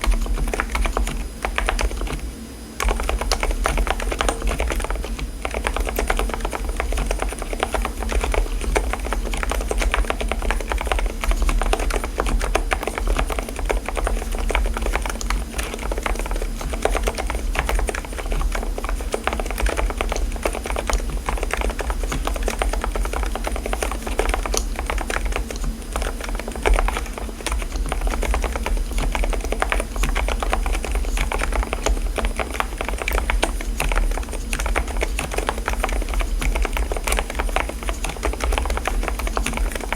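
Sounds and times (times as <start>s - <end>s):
fast typing on keyboard: 0.0s - 39.9s
steady low hum: 0.0s - 39.9s.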